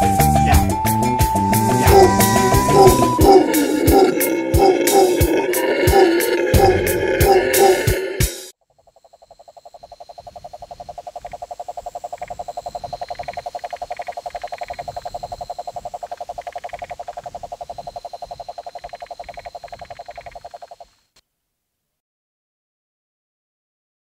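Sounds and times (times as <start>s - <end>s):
frog pulsed trill: 1.5s - 21.0s.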